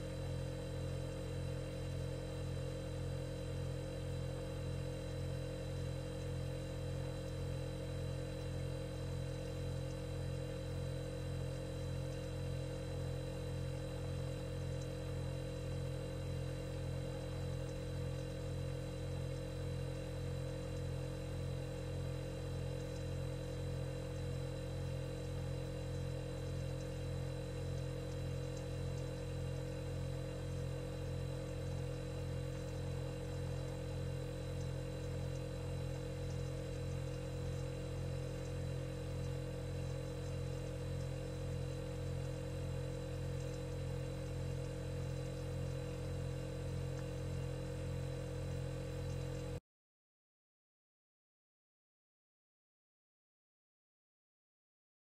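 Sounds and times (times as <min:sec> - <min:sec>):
low electric hum: 0:00.0 - 0:49.6.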